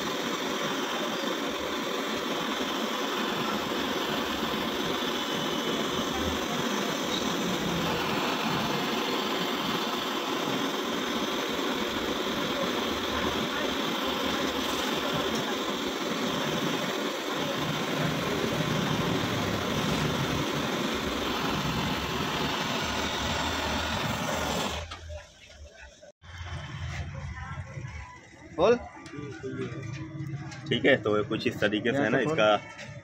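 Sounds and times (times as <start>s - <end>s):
torch flame hissing: 0.0s - 26.8s.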